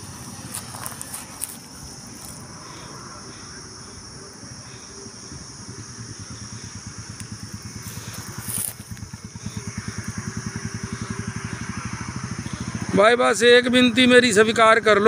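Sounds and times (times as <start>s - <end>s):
engine running with rapid pulse: 0.0s - 15.0s.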